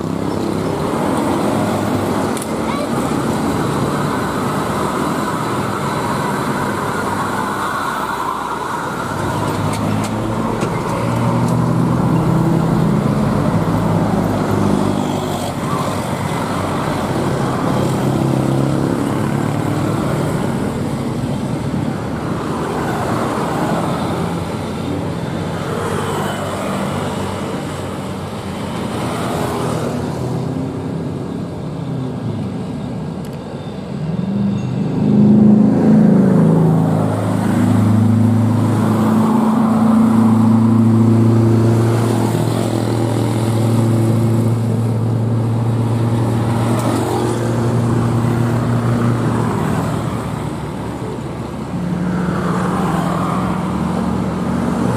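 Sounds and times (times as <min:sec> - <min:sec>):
trucks labouring uphill: 0:00.0 - 0:54.9.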